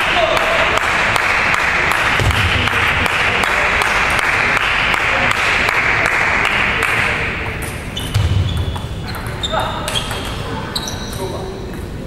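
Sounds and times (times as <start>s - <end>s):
rush of hall noise: 0.0s - 12.0s.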